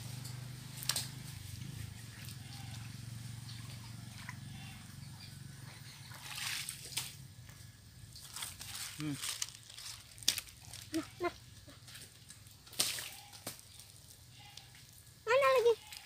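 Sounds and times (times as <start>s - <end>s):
steady low hum: 0.0s - 15.3s
water sloshing and splashing: 0.7s - 4.8s, 6.1s - 7.4s, 8.1s - 16.0s.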